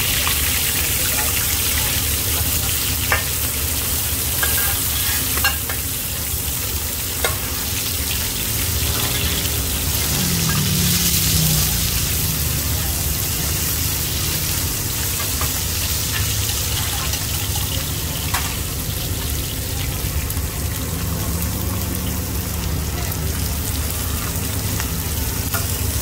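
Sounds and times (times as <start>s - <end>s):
oil sizzling in a pan: 0.0s - 26.0s.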